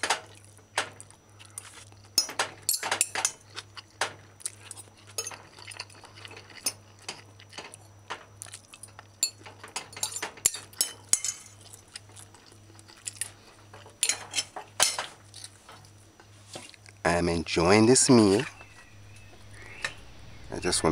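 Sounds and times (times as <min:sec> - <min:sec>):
faint low hum: 0:00.0 - 0:20.9.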